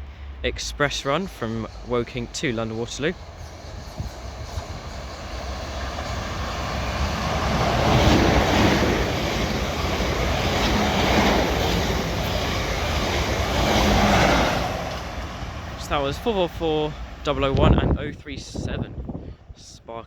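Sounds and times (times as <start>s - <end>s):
trains passing at speed: 0.0s - 19.8s.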